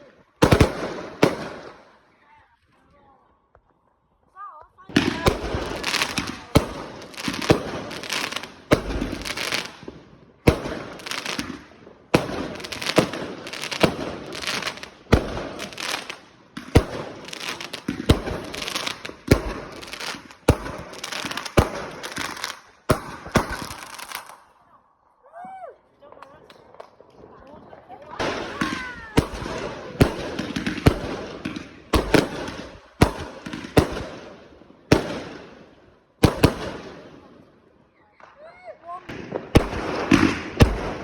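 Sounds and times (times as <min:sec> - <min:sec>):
fireworks bangs: 0:00.0 - 0:02.0, 0:04.8 - 0:24.6, 0:26.0 - 0:41.0.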